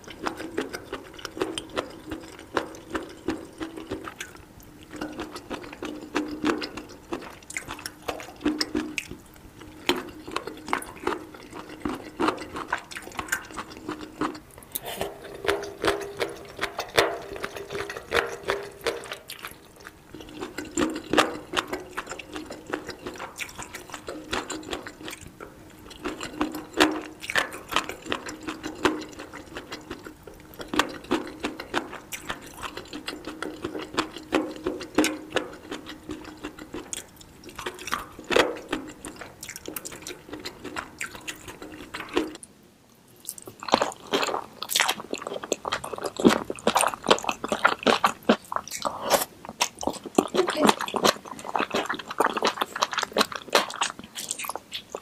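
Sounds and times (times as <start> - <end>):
moist mouth sounds: 0.0 - 42.4, 43.2 - 55.0
crunchy chewing: 0.0 - 42.5, 43.1 - 55.0.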